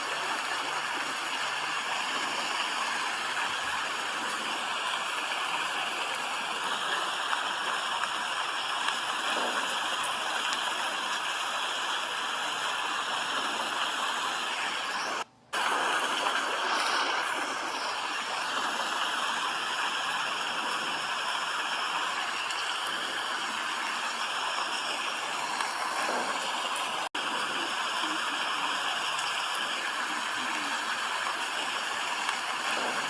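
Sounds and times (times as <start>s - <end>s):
steady rain: 0.0s - 33.0s.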